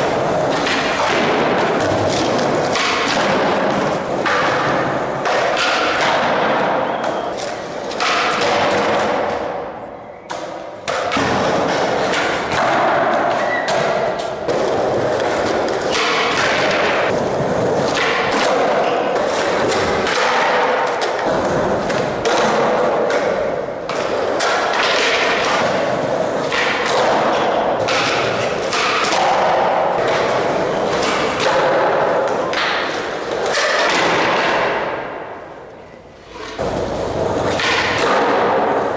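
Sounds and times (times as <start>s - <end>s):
skateboards popping and landing: 0.0s - 38.9s
skateboards rolling on concrete: 0.0s - 38.9s.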